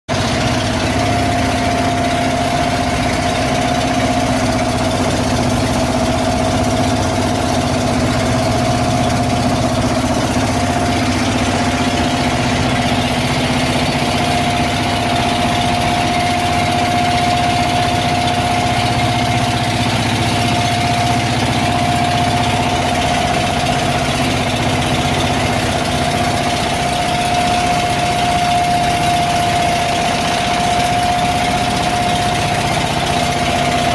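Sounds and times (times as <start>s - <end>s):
boat engine running: 0.1s - 33.9s.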